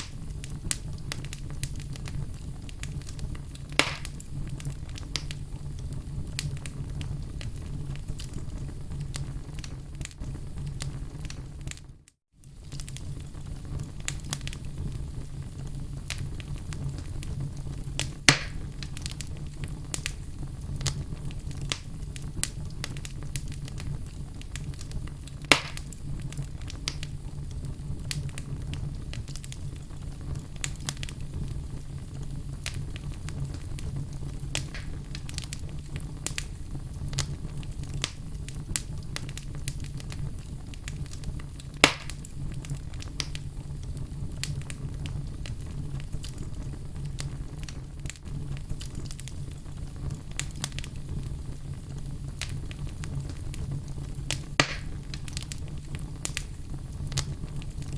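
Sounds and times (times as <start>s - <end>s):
loud sharp fire pops: 0.0s - 11.8s, 12.4s - 57.9s
wood fire crackling: 0.0s - 57.9s.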